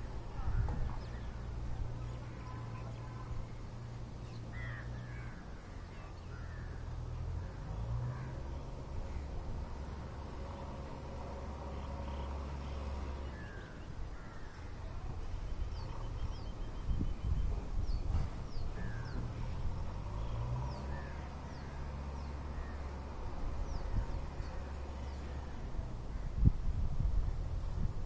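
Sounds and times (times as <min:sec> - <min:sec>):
birds chirping and trilling: 0:00.0 - 0:26.5.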